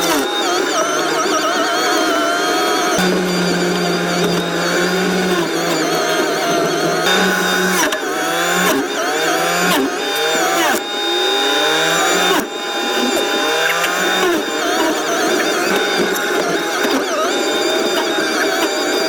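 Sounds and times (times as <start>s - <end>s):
forestry mulcher whining: 2.2s - 19.0s.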